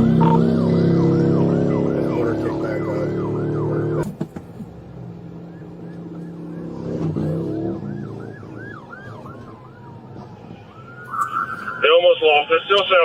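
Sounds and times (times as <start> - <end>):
police siren yelping: 0.0 - 4.0, 5.3 - 13.0
vehicle engine running hard: 0.0 - 10.8.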